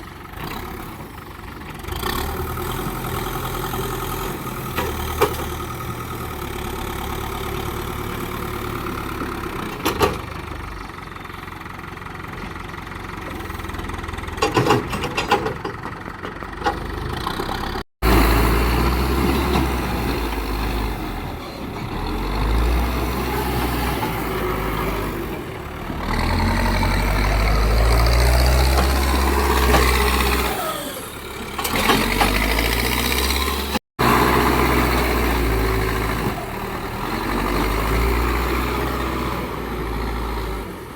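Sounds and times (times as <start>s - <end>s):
diesel engines working under load: 0.0s - 40.9s.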